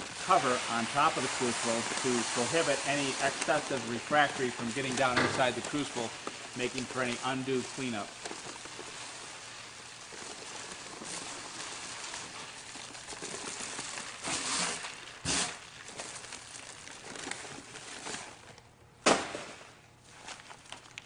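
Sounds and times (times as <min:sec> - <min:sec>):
granular mix pouring from bag: 0:00.0 - 0:18.6, 0:19.5 - 0:21.0.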